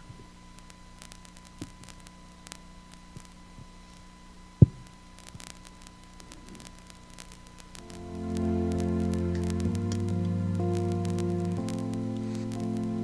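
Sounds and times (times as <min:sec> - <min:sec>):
electrical hum: 0:00.0 - 0:13.0
faint clicks: 0:00.1 - 0:13.0.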